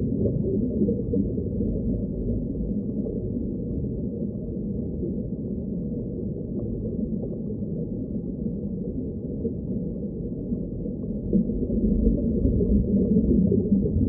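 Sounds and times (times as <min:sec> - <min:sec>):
muffled underwater rumble: 0:00.0 - 0:14.0.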